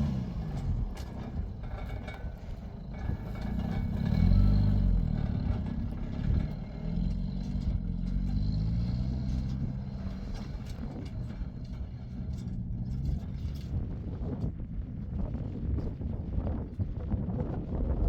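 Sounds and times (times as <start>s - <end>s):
vehicle engine revving: 0.0s - 14.6s.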